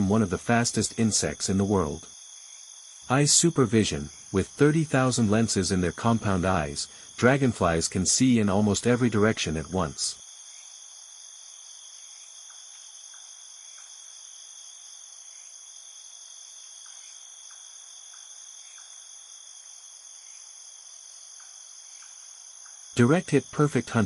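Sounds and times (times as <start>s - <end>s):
chorus of trilling insects: 0.0s - 24.0s.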